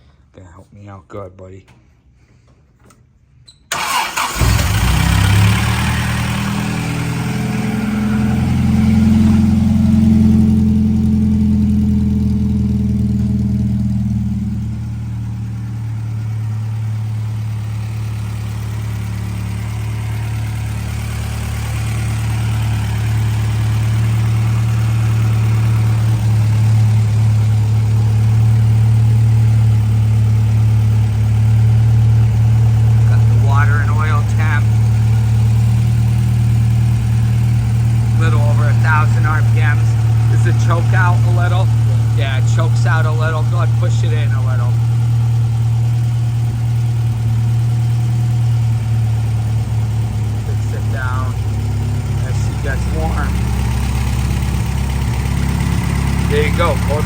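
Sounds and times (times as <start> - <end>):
car engine starting and idling: 3.7 - 57.0.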